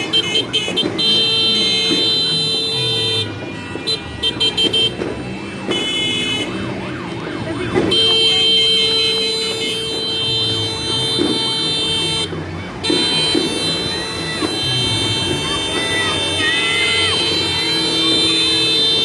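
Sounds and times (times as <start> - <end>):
horns blaring: 0.0 - 19.0.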